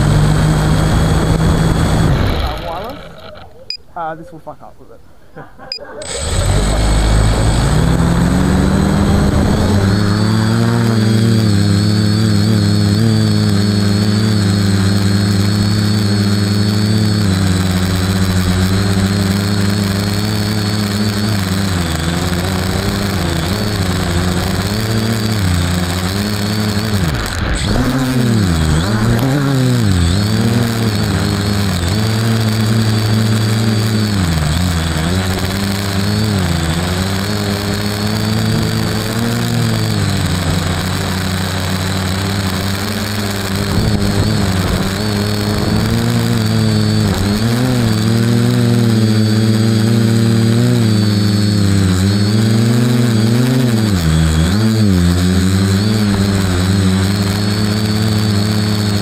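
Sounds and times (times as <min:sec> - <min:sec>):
drone motors buzzing and whining: 0:00.0 - 0:03.8, 0:05.7 - 0:59.0.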